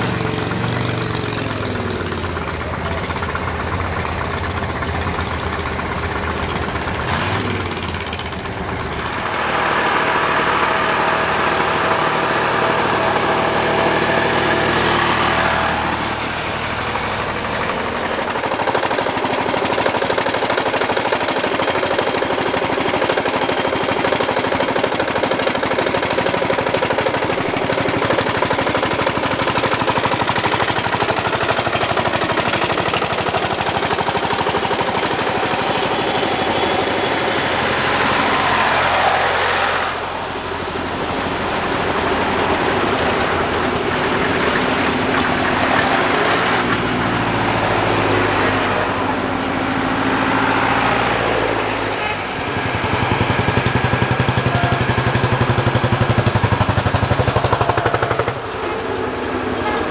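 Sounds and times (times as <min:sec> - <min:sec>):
engine with popping exhaust: 0:00.0 - 0:59.9.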